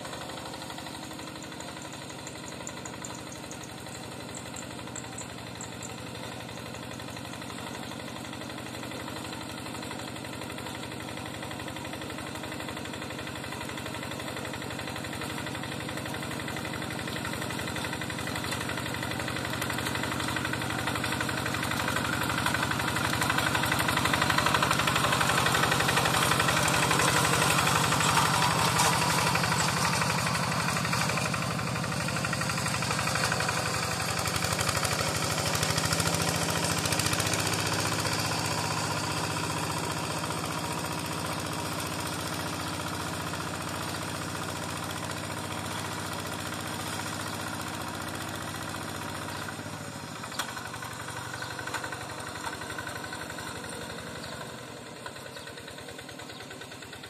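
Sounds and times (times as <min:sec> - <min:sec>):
diesel hand tractor engine running: 0:00.0 - 0:57.0.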